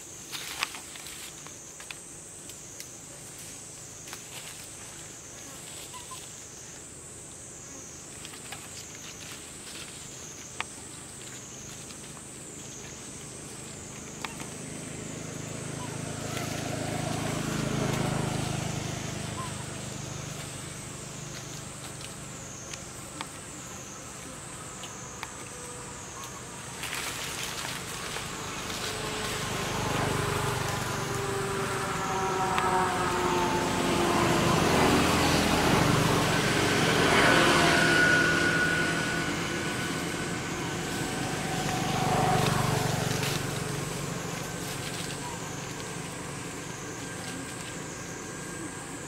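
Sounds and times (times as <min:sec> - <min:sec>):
steady low hum: 0:00.0 - 0:49.0
vehicle engine: 0:07.8 - 0:49.0.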